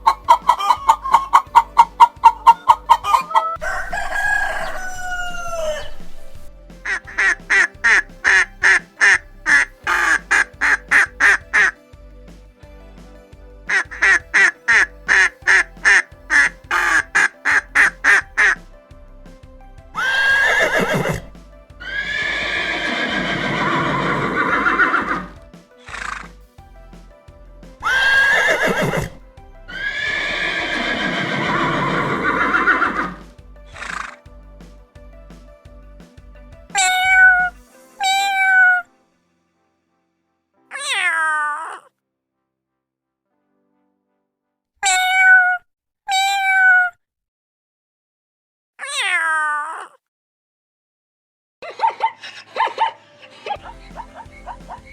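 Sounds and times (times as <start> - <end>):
background music: 0.0 - 41.6, 51.7 - 54.9.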